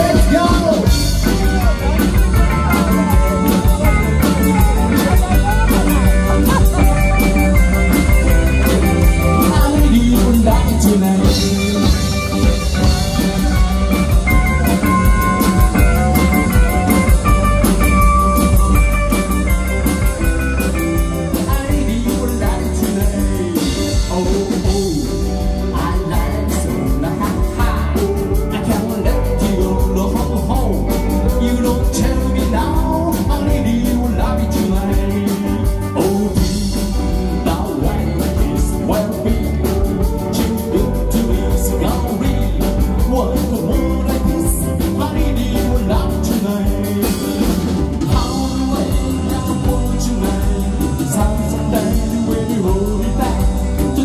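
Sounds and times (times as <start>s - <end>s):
drum kit: 0.0s - 54.0s
electric guitar: 0.0s - 54.0s
man singing: 0.0s - 54.0s
rock and roll band playing: 0.0s - 54.0s.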